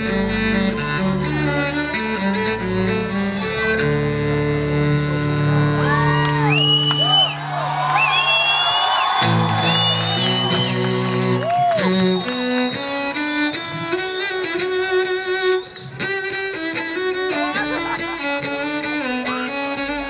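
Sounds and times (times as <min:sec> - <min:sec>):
bowed cello melody: 0:00.0 - 0:06.5, 0:09.2 - 0:20.0.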